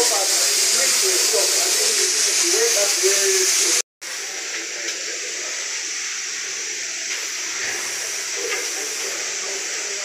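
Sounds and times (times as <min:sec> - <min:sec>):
loud hissing: 0:00.0 - 0:10.0.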